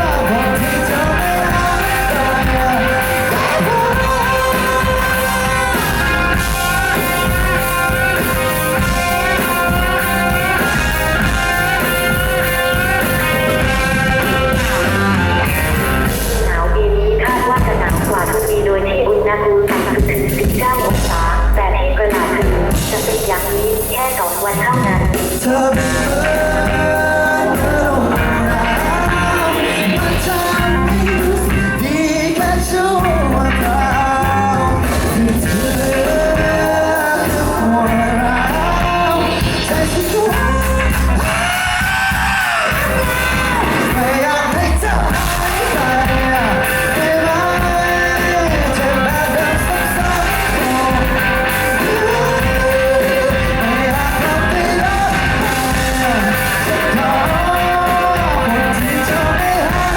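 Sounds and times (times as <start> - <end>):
lead vocalist singing: 0.0 - 59.9
pop-rock band playing: 0.0 - 59.9.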